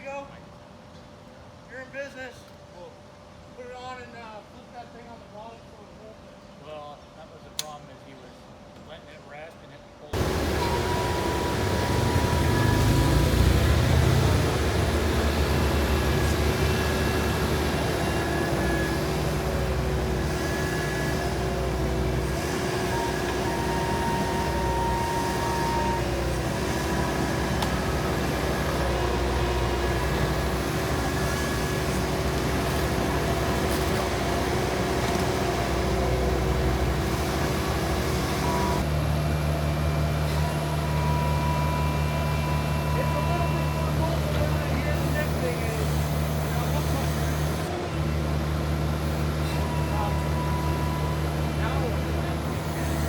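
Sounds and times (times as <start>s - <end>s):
excavator engine humming: 10.2s - 53.0s.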